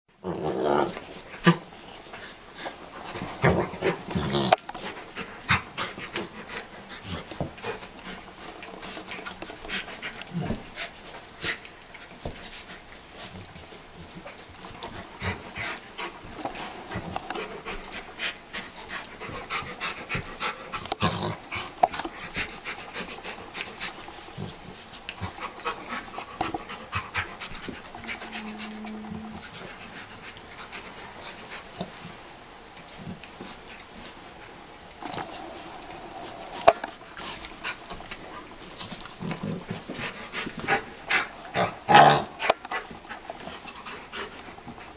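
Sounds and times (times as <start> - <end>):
dogs panting: 1.0 - 44.9.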